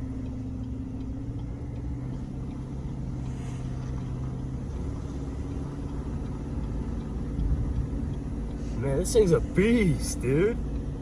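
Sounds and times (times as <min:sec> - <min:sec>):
low road rumble: 0:00.0 - 0:11.0
truck engine running under load: 0:00.0 - 0:11.0.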